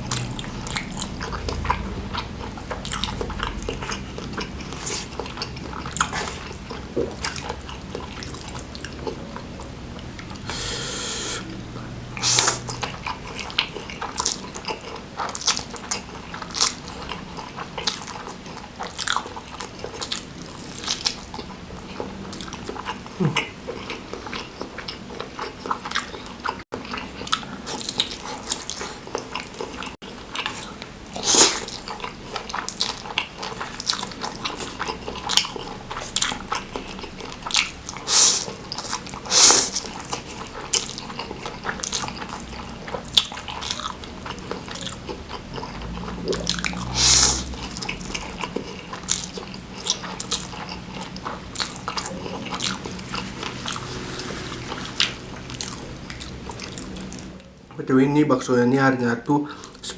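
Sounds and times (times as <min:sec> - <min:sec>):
wet chewing and smacking: 0:00.0 - 0:10.5, 0:12.2 - 0:57.8.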